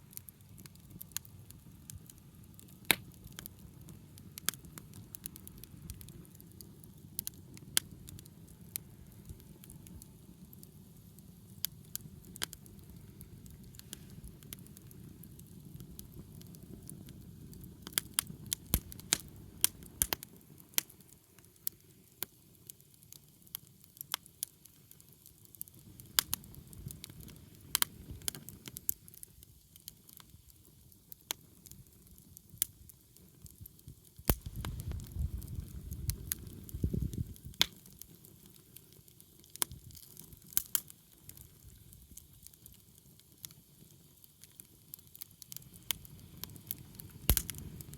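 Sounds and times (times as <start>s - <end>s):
bonfire crackling: 0.0s - 47.9s
low rumble of flame: 0.0s - 47.9s.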